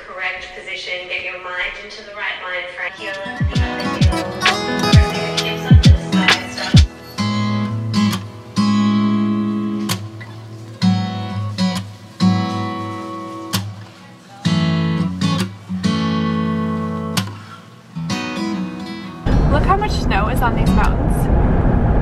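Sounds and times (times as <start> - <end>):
acoustic guitar strumming chords: 3.0 - 20.9.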